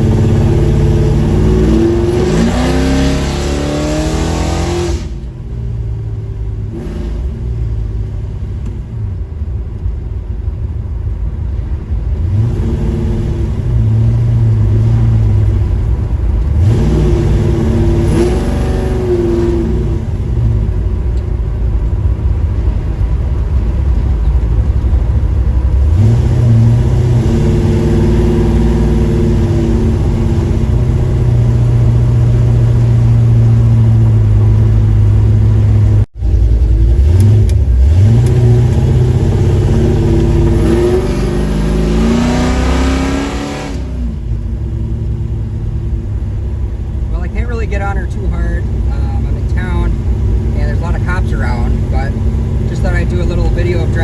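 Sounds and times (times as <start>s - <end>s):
car engine and exhaust accelerating: 0.0s - 54.0s.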